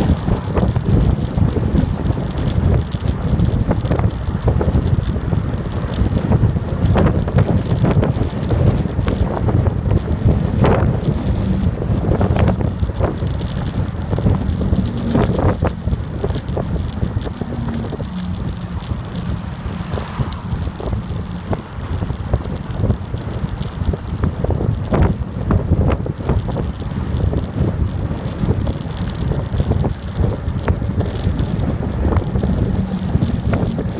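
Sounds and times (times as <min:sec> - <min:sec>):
brake squeals: 0:00.0 - 0:24.2, 0:28.2 - 0:33.9
bicycle road noise: 0:00.0 - 0:33.9
wind buffeting microphone: 0:00.0 - 0:33.9.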